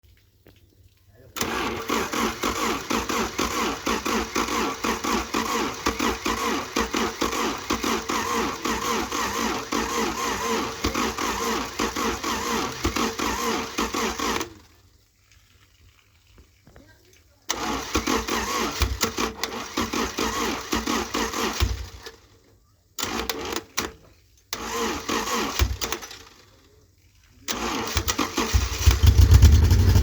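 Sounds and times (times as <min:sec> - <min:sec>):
four-cylinder petrol engine running: 0:01.4 - 0:14.8, 0:17.5 - 0:22.4, 0:23.0 - 0:26.8, 0:27.4 - 0:30.0.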